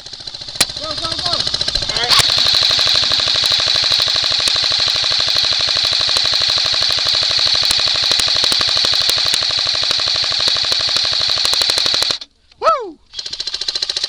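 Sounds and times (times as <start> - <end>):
airsoft rifle full-auto burst: 0.0 - 12.3, 13.1 - 14.0
high gearbox whine: 0.0 - 12.3.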